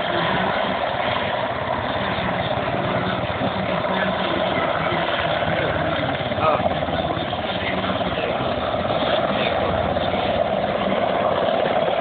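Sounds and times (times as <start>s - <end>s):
helicopter flying low: 0.0s - 12.0s.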